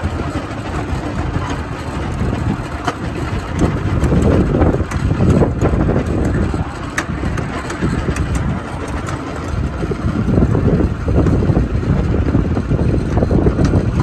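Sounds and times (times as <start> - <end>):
miniature locomotive engine: 0.0 - 14.0.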